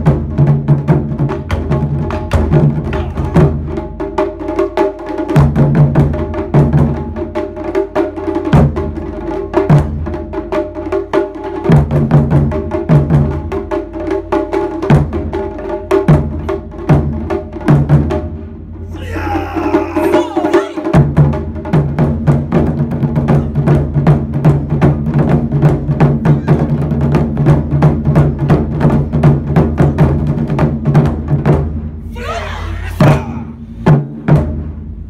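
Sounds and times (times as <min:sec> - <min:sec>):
deep drum beats: 0:00.0 - 0:11.0, 0:11.6 - 0:35.0.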